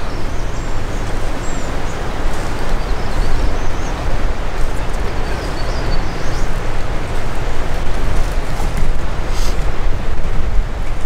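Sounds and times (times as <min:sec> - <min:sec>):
songbirds chirping: 0:00.0 - 0:11.0
wind buffeting microphone: 0:00.0 - 0:11.0.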